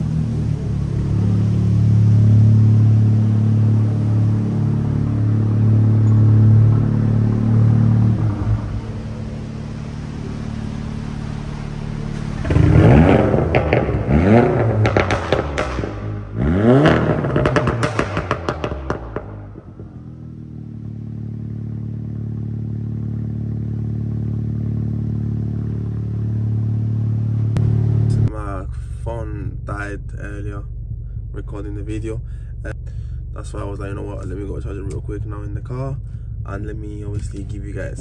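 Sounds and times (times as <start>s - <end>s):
car engine revving: 0.0s - 38.0s
exhaust crackles: 0.0s - 38.0s.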